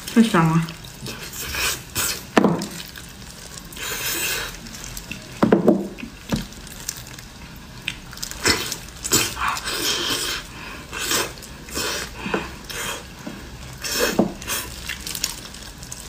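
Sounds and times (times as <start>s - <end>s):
wet chewing and sucking: 0.7s - 16.0s.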